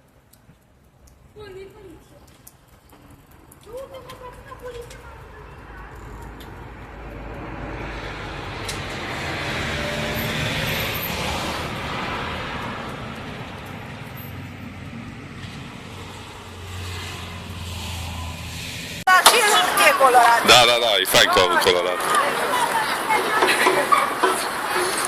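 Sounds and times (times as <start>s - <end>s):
road vehicle passing by: 1.0s - 25.0s.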